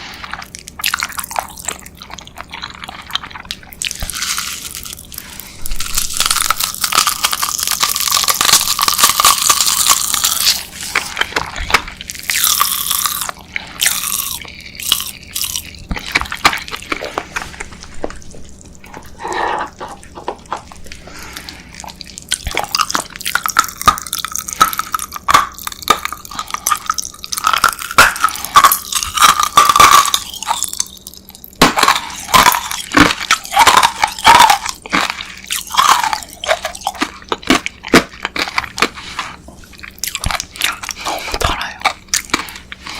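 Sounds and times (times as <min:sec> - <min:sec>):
wet sticky chewing: 0:00.0 - 0:42.9.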